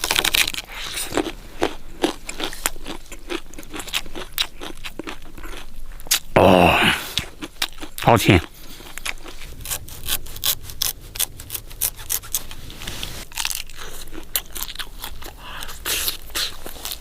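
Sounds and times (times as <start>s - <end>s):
palm heart crunching when chewed: 0.0s - 17.0s.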